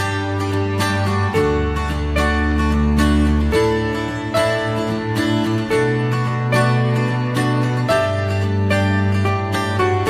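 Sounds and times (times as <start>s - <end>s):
plucked strings: 0.0s - 10.0s.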